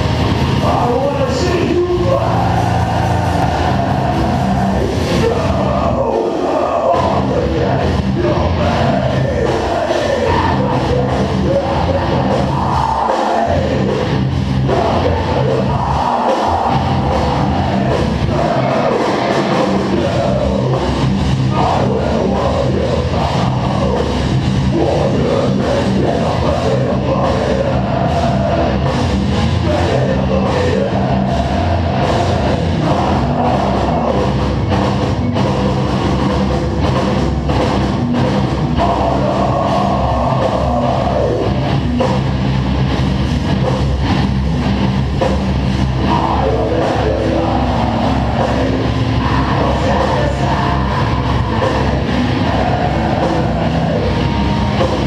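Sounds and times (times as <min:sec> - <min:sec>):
bass guitar: 0:00.0 - 0:55.0
distorted electric guitars: 0:00.0 - 0:55.0
pounding drum kit: 0:00.0 - 0:55.0.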